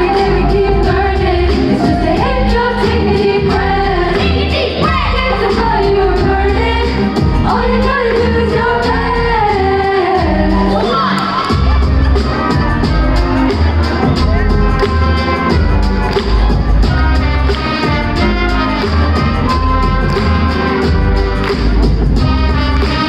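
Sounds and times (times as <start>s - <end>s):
bass: 0.0s - 23.0s
drum beat: 0.0s - 23.0s.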